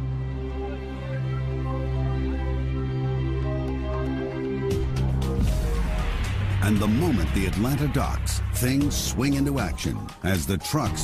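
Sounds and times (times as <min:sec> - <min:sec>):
steady low drone: 0:00.0 - 0:10.2.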